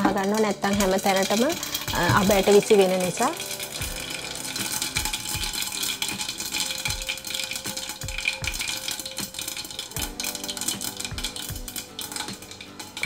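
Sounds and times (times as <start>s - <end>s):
oil sizzling: 0.0s - 13.0s
seeds popping against pot lid: 0.0s - 13.0s.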